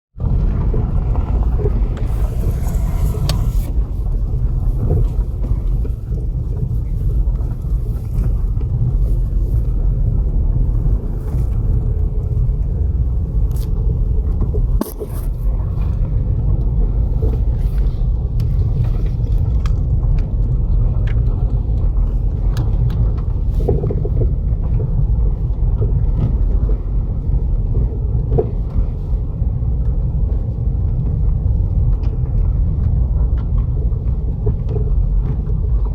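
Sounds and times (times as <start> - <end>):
car rumbling on uneven road: 0.2 - 35.9.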